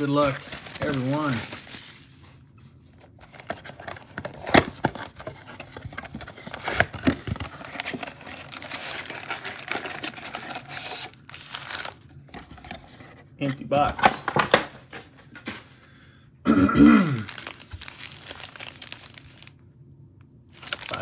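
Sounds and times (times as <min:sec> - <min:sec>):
foil packs crinkling and rustling: 0:00.0 - 0:14.5, 0:17.0 - 0:19.6, 0:20.5 - 0:21.0.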